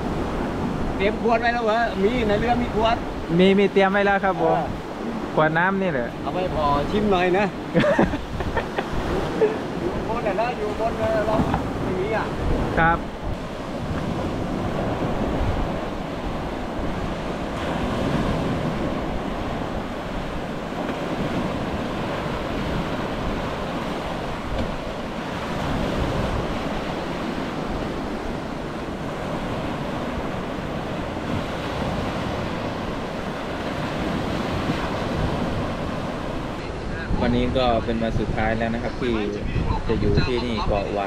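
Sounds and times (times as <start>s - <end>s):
waves on a rough sea: 0.0s - 41.0s
wind buffeting the microphone: 0.0s - 41.0s.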